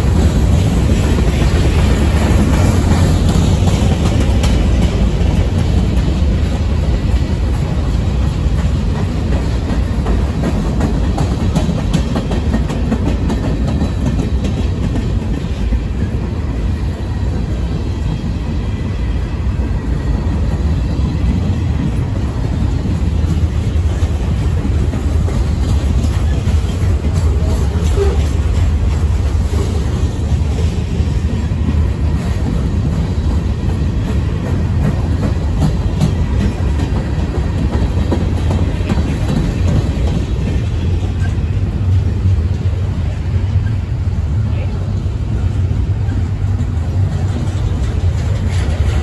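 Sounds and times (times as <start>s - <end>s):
wheels clicking over rail joints: 0.0s - 16.6s, 20.4s - 43.7s, 46.0s - 49.0s
steel wheels rumbling on rail: 0.0s - 49.0s.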